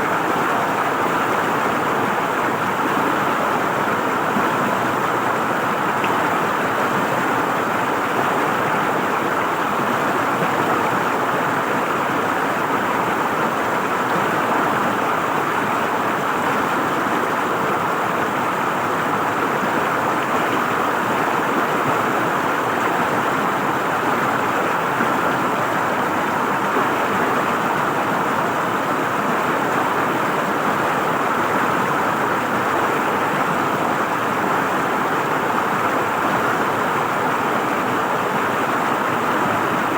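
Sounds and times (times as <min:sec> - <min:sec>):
river water gurgling over rocks: 0:00.0 - 0:39.9.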